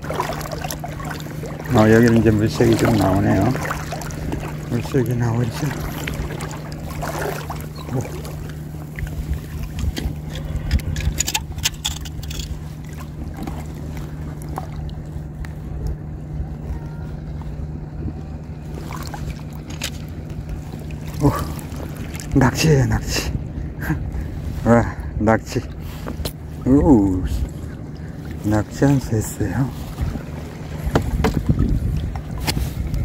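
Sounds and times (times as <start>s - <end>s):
boots wading through water: 0.0s - 22.9s, 25.6s - 33.0s
steady low hum: 0.0s - 33.0s.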